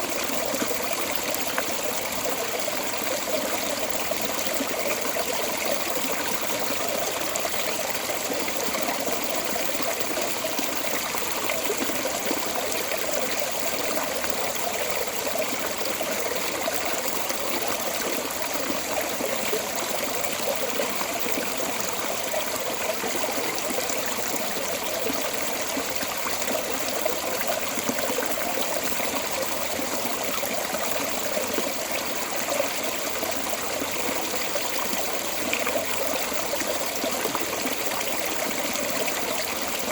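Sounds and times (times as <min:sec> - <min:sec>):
water rushing from drain: 0:00.0 - 0:39.9.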